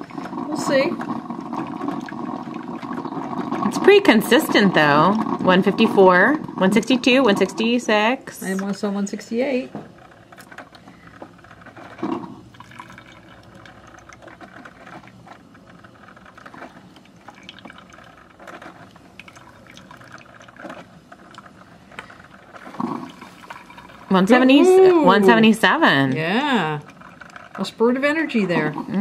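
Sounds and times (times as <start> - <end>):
coffee maker gurgling: 0.0 - 29.0.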